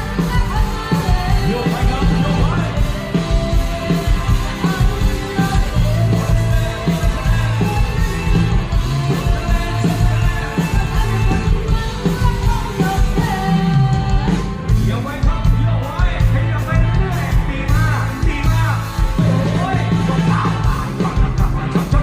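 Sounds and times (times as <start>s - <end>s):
band music with heavy bass: 0.0s - 22.0s
person singing: 0.0s - 22.0s.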